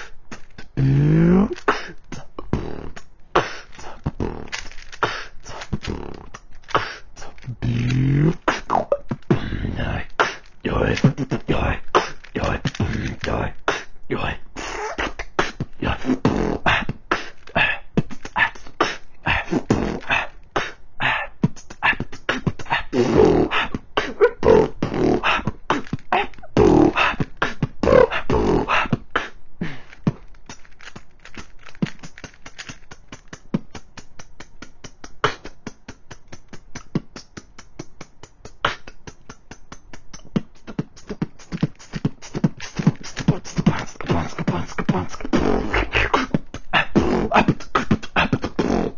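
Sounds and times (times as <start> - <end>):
person beatboxing: 0.0 - 48.9.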